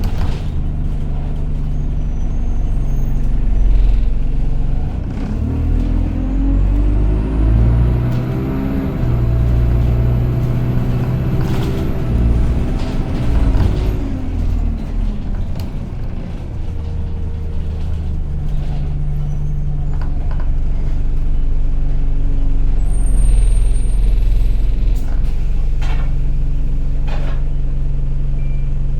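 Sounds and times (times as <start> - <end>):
bus engine whining: 0.0 - 28.9.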